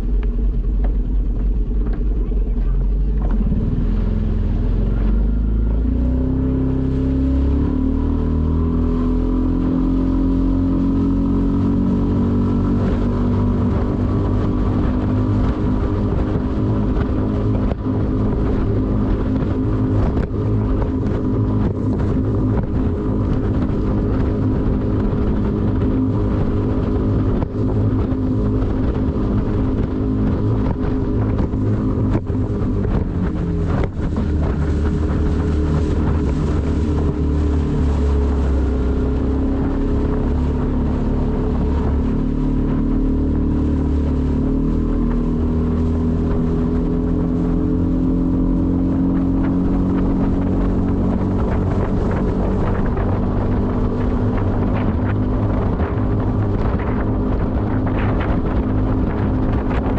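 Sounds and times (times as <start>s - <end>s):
outboard motor speeding up: 0.0s - 59.9s.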